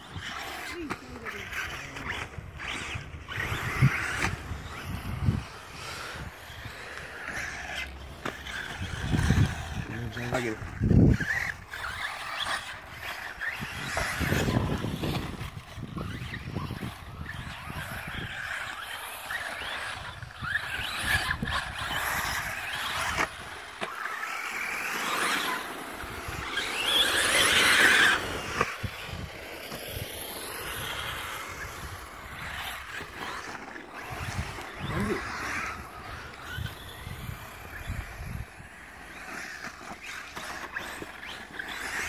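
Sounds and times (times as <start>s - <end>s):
rc car motor whine: 0.0s - 42.0s
tyres on loose dirt: 0.0s - 42.0s.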